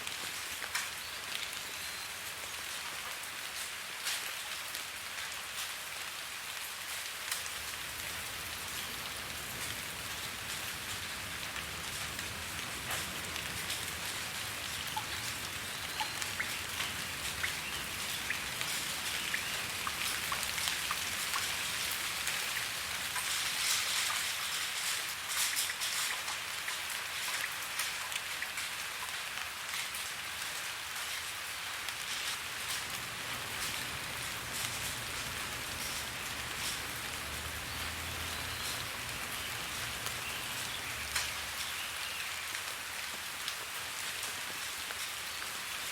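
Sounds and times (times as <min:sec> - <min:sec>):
rain falling: 0:00.0 - 0:45.9
raindrops ticking on a surface: 0:00.0 - 0:45.9.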